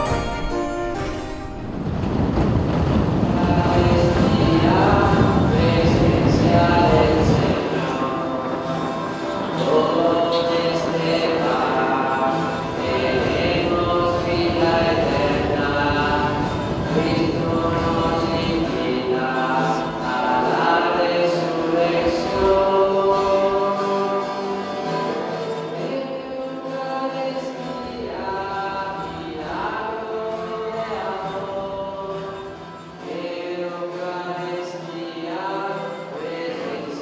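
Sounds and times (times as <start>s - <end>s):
choir singing long held notes: 2.8s - 37.0s.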